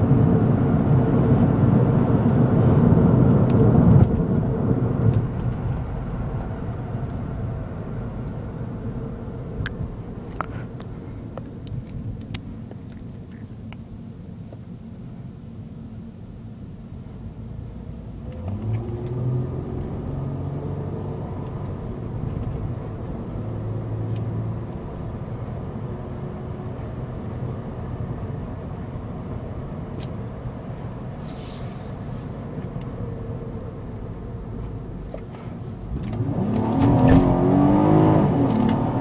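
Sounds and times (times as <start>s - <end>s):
car engine hum: 0.0s - 39.0s
road rumble: 0.0s - 39.0s.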